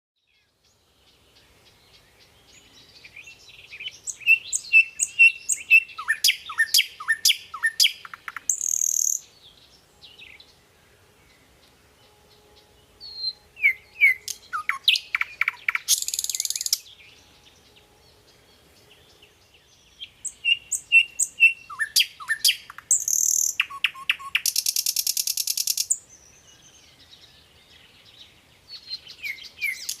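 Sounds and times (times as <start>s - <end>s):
songbird singing: 0.2s - 30.0s.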